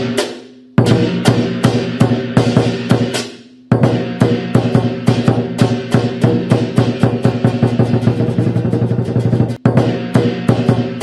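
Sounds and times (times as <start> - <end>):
big drum beating: 0.0 - 11.0
clashing cymbals: 0.0 - 11.0.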